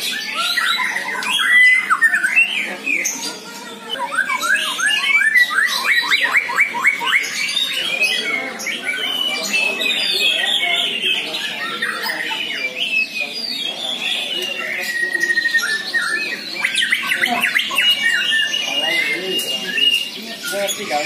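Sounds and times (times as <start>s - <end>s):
caged songbirds singing: 0.0s - 21.0s.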